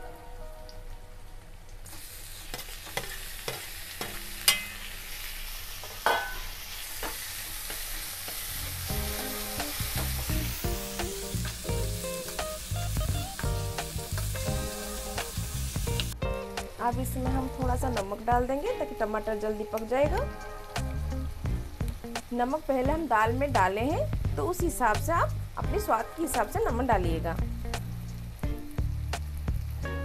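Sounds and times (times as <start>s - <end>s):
food sizzling in hot oil: 1.7s - 30.0s.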